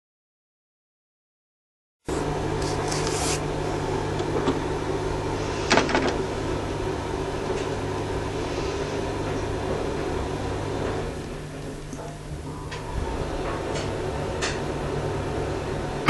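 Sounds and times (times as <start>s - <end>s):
steady hum: 2.1s - 16.0s.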